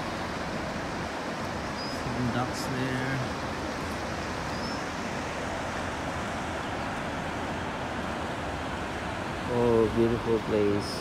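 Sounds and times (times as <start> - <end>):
river water rushing over a drop: 0.0 - 11.0.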